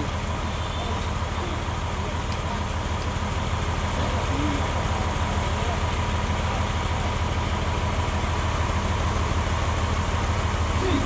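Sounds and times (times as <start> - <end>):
sawmill machinery humming: 0.0 - 11.0.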